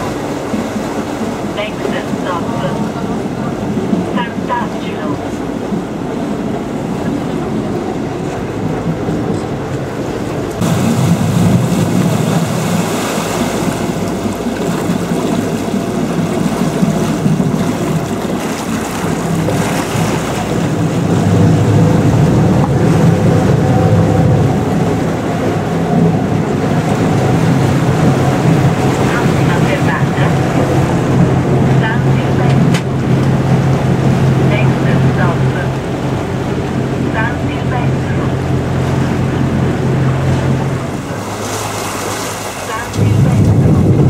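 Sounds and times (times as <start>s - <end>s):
boat engine droning: 0.0s - 44.0s
water rushing past hull: 0.0s - 44.0s.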